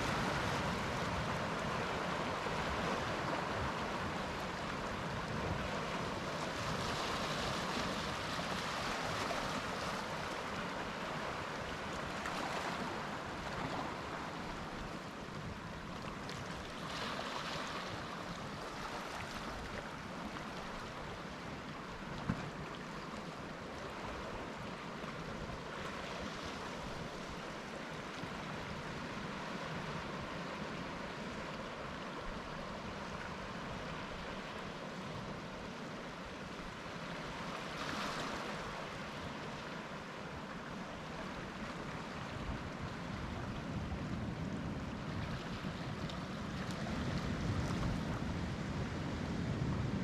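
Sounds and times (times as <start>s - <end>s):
waves breaking on beach: 0.0s - 50.0s
wind rumble on microphone: 0.0s - 50.0s.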